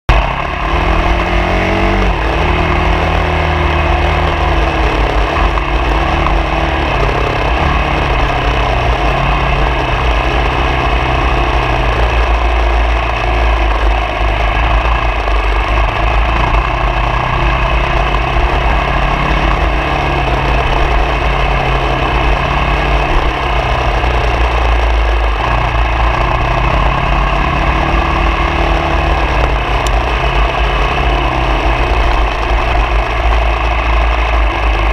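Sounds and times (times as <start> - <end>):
steady low rumble: 0.1 - 34.9
vehicle engine revving: 0.1 - 34.9.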